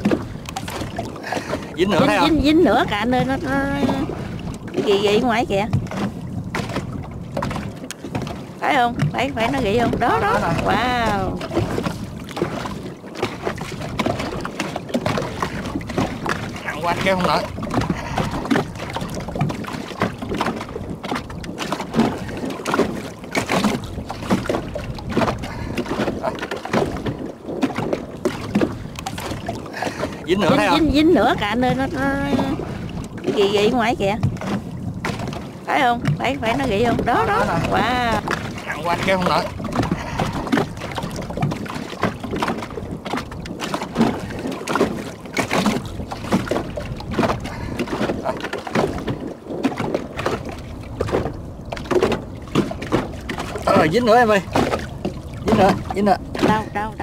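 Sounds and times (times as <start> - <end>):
knocks and water splashes: 0.0 - 57.0
wind on microphone: 0.0 - 57.0.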